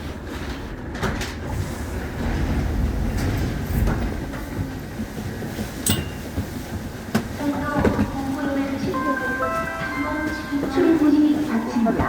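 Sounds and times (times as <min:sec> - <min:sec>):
subway train rumbling on track: 0:00.0 - 0:12.0.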